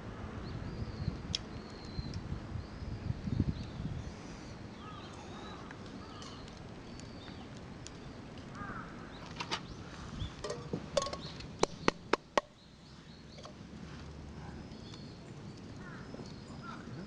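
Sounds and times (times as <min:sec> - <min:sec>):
small birds chirping: 0:00.4 - 0:17.0.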